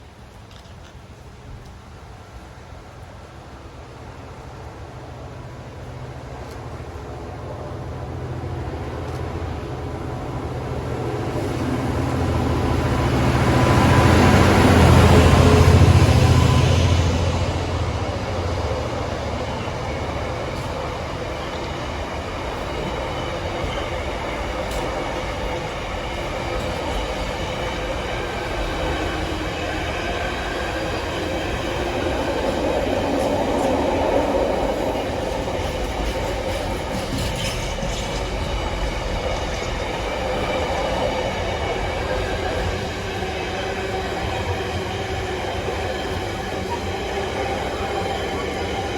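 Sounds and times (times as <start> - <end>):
diesel locomotive engine: 0.0 - 48.9
train wheels rumbling on rails: 0.0 - 48.9.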